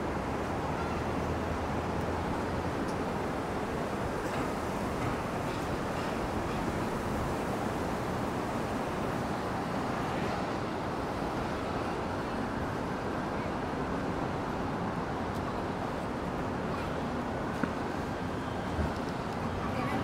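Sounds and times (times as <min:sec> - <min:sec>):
city traffic roar: 0:00.0 - 0:20.0.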